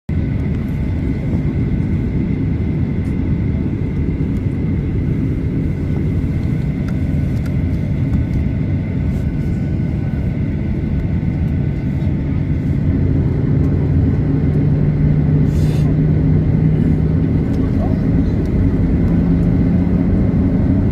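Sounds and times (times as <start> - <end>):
jet engines rumbling: 0.1 - 20.9.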